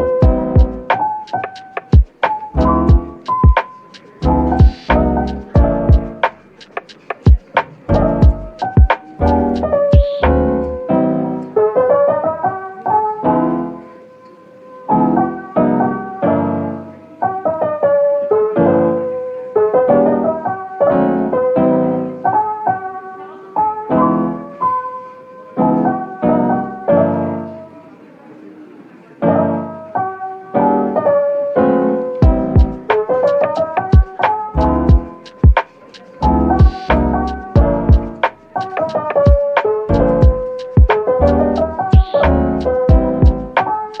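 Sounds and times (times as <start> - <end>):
mellow lo-fi piano music: 0.0 - 44.0.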